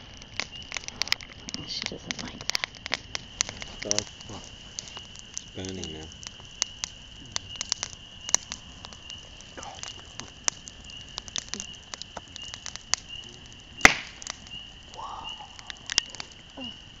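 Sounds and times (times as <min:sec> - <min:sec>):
crickets chirping: 0:00.0 - 0:17.0
wood fire crackling: 0:00.0 - 0:17.0.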